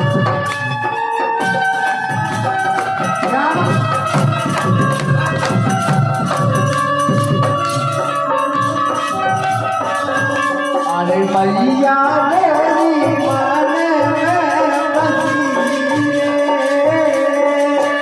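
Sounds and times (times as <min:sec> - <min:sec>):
banjo melody: 0:00.0 - 0:18.0
steady percussion beat: 0:00.0 - 0:18.0.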